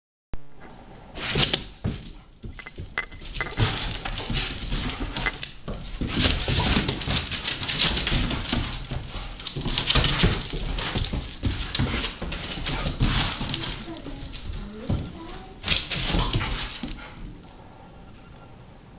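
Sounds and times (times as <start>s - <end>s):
dog claws clicking on tile: 1.4s - 17.2s.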